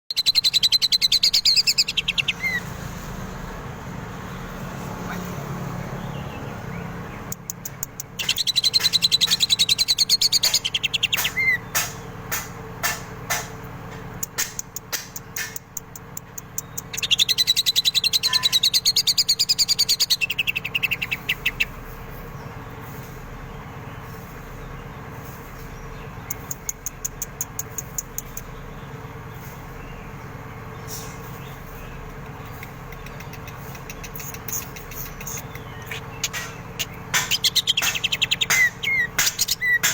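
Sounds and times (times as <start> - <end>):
bird singing: 0.0 - 3.6, 5.8 - 12.4, 14.1 - 39.9
sharp bird chips: 0.1 - 3.1, 7.1 - 39.9.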